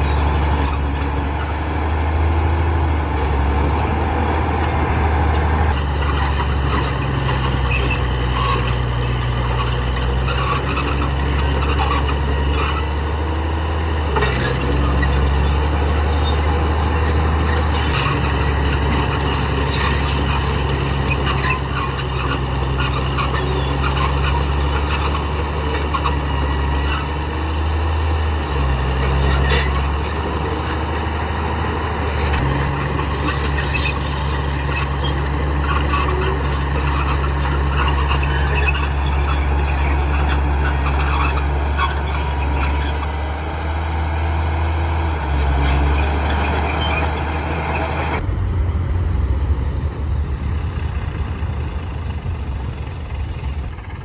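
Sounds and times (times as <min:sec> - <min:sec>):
metallic squeals and clanks: 0:00.0 - 0:48.2
heavy diesel engine under load: 0:00.0 - 0:54.0.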